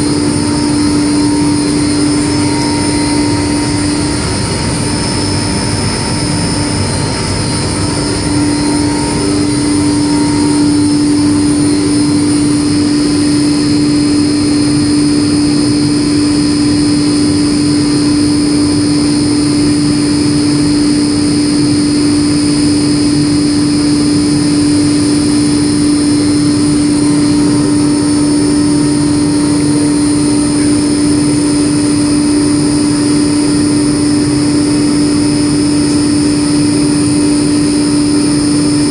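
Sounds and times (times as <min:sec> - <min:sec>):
laundry machine humming: 0:00.0 - 0:38.9.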